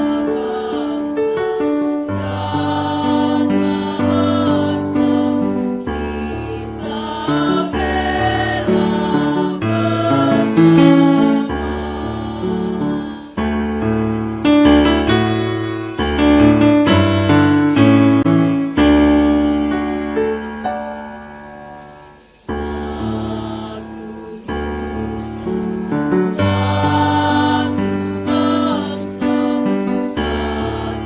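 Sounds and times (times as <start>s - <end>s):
choir singing: 0.0s - 31.0s
electric keyboard chords: 1.9s - 31.0s.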